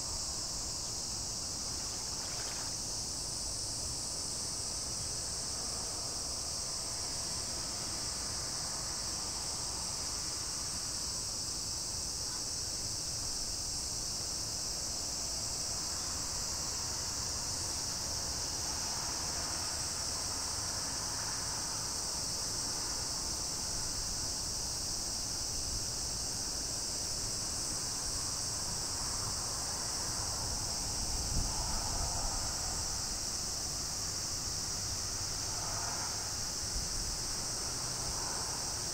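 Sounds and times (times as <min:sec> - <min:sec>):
insect chorus drone: 0:00.0 - 0:38.9.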